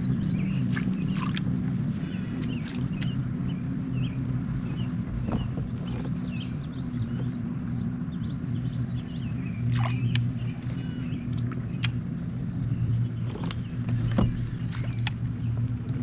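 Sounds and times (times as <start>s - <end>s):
birds chirping: 0.0s - 16.0s
low motor drone: 0.0s - 16.0s.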